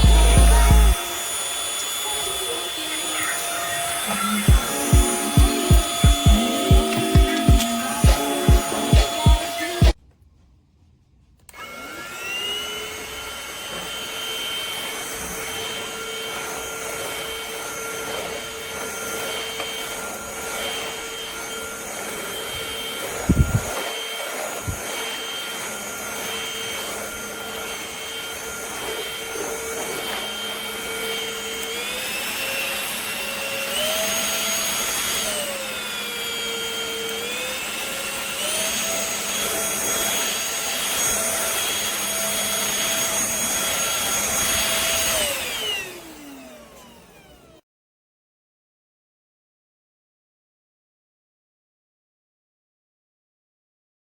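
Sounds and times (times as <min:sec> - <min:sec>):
vacuum motor whining: 0:00.0 - 0:10.0, 0:11.5 - 0:47.6.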